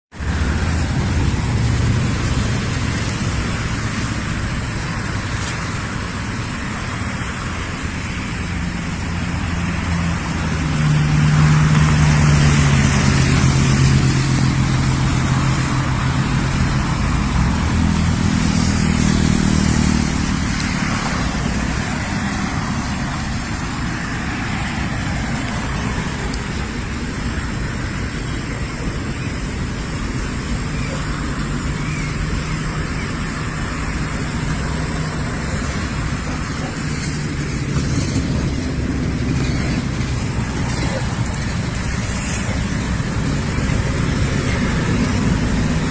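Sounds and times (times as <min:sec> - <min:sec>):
road noise: 0:00.1 - 0:45.9
vehicle engine humming: 0:00.1 - 0:45.9.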